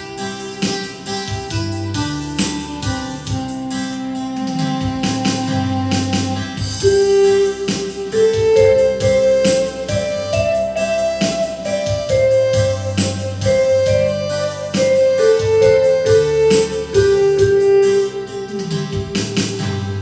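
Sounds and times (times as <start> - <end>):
bass line: 0.0 - 20.0
electronic keyboard melody: 0.0 - 20.0
steady keyboard beat: 0.0 - 20.0.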